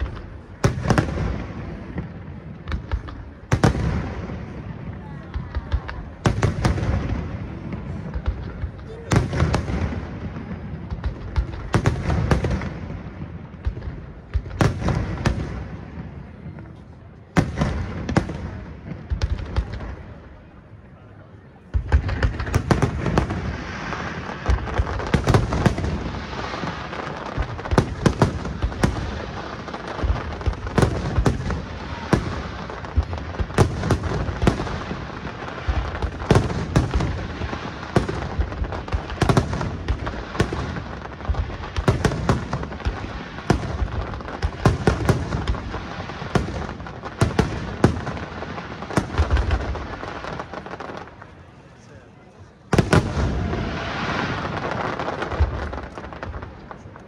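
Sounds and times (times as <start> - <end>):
fireworks bursting: 0.0 - 57.0
fireworks crackle: 0.0 - 57.0.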